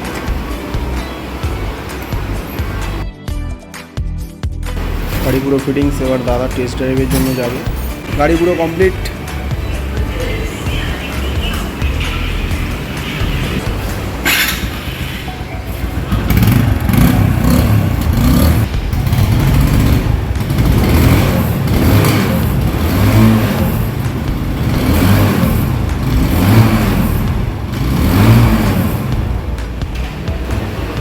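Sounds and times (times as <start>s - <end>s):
motorcycle engine revving: 4.8s - 31.0s.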